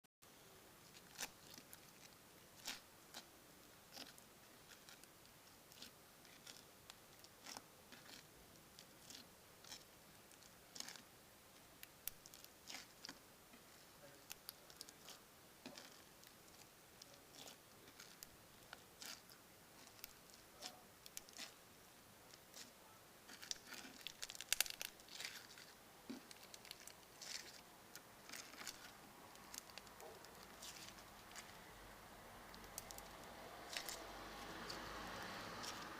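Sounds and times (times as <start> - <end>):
foam slime crackling: 0.8 - 21.6, 22.3 - 35.9.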